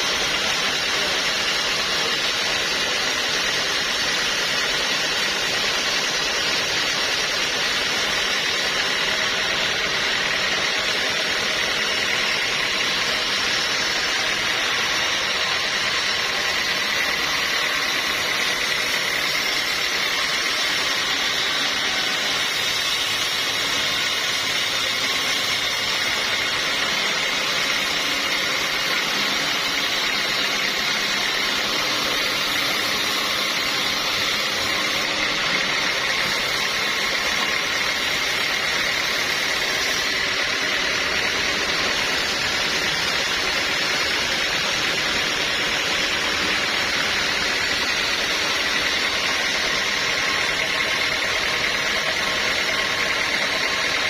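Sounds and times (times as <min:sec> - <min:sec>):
high machine whine: 0:00.0 - 0:54.0
sawmill machinery drone: 0:00.0 - 0:54.0.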